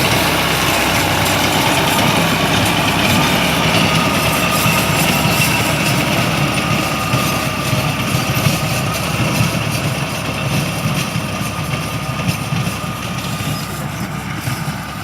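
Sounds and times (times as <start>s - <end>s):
machinery engine rumbling: 0.0s - 15.0s.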